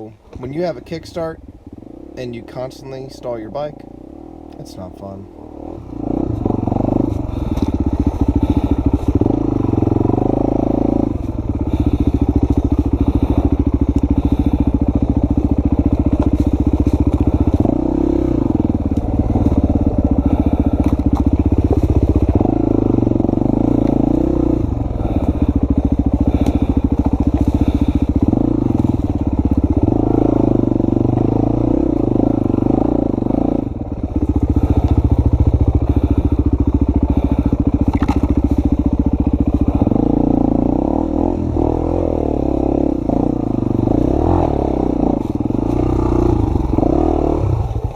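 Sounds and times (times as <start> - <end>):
dirt bike engine revving: 5.3 - 47.9.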